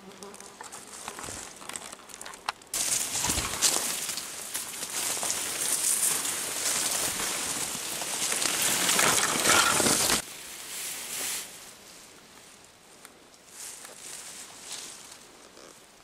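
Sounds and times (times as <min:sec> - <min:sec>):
leaves and branches rustling: 0:00.0 - 0:16.0.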